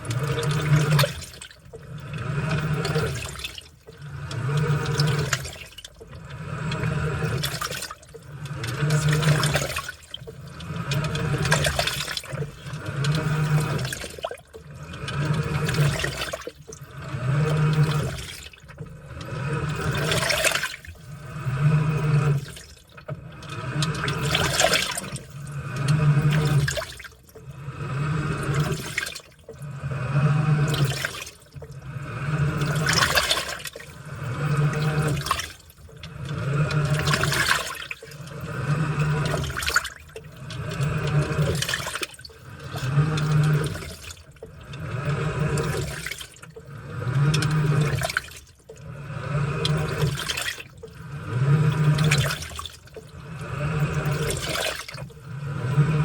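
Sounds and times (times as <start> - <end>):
low motor hum: 0.0 - 56.0
washing machine sloshing: 0.0 - 56.0.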